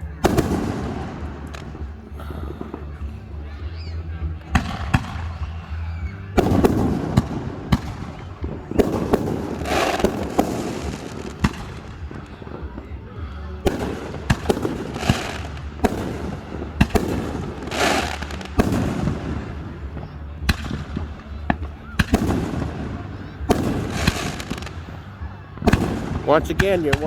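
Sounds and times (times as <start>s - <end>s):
fireworks bangs: 0.0s - 27.0s
fireworks crackling bursts: 0.0s - 27.0s.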